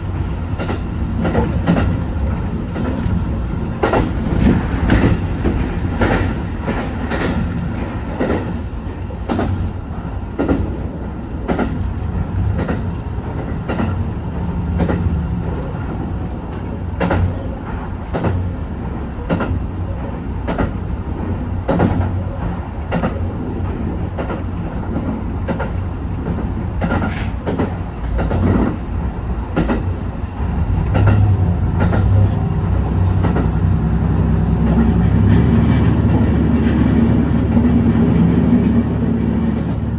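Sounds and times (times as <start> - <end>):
train wheels clicking over rail joints: 0.0 - 33.7
train low drone: 0.0 - 39.9.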